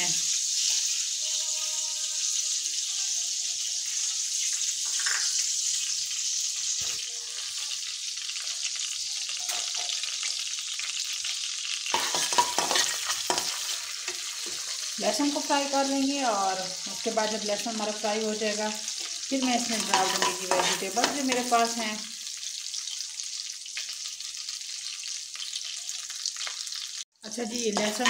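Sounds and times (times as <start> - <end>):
garlic sizzling in hot oil: 0.0 - 28.0.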